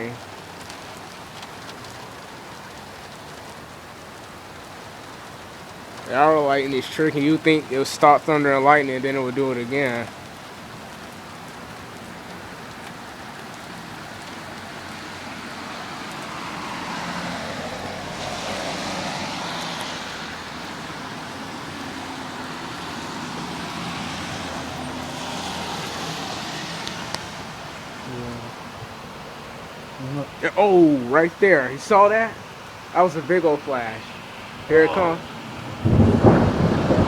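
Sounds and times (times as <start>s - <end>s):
hard rain hissing: 0.0s - 37.0s.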